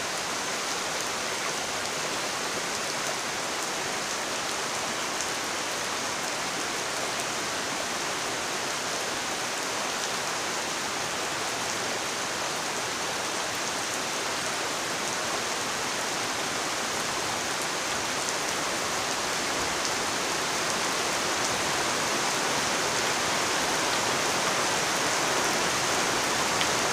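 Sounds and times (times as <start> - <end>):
heavy rain on leaves and water: 0.0 - 26.9.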